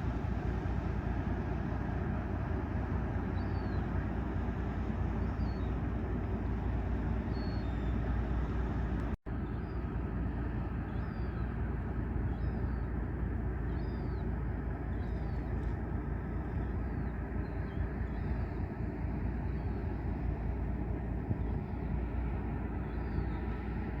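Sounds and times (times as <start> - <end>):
ship engine rumble: 0.0 - 24.0.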